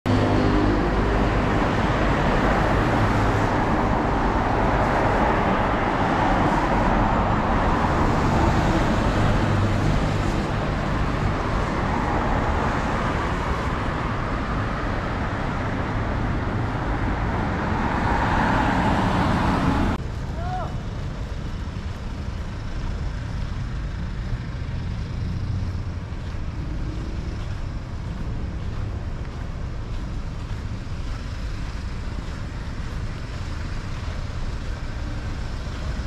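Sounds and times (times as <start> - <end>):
low engine hum: 0.1 - 36.0
vehicles passing: 0.1 - 36.0
tyres hissing on wet road: 0.2 - 22.2, 25.2 - 36.0.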